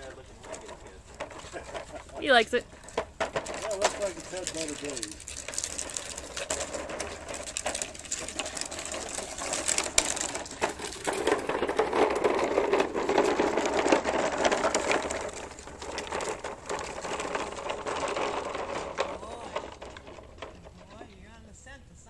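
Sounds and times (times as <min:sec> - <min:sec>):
plastic push toy rattling: 0:00.0 - 0:21.2.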